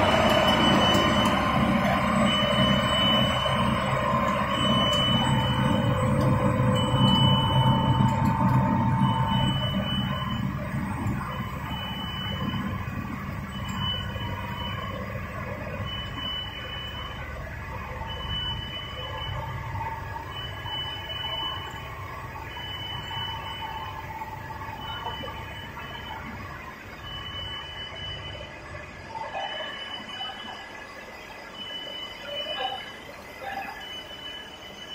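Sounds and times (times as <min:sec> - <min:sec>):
electronic warning beeper: 0:00.0 - 0:34.9
low hum of machinery: 0:00.0 - 0:34.9.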